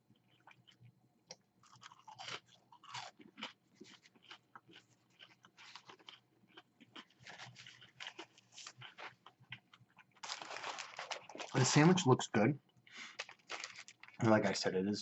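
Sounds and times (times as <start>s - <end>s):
crunching and chewing fries: 0.0s - 12.0s, 12.6s - 14.2s.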